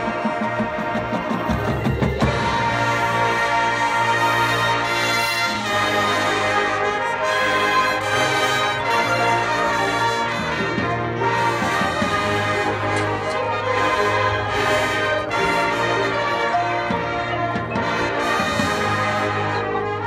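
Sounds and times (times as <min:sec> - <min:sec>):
marching band brass chords: 0:00.0 - 0:20.0.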